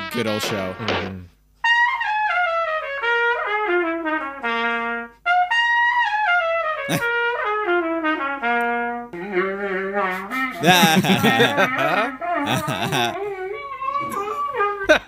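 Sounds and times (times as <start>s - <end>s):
solo trumpet playing: 0.0s - 0.9s, 1.6s - 13.1s.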